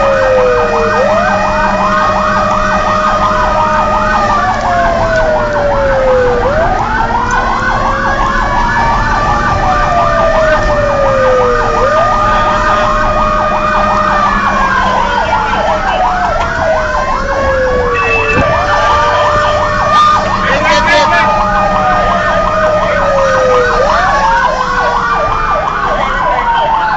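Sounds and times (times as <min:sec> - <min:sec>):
fire engine siren wailing: 0:00.0 - 0:26.9
truck engine droning: 0:00.0 - 0:26.9
yelping siren warble: 0:00.0 - 0:26.9.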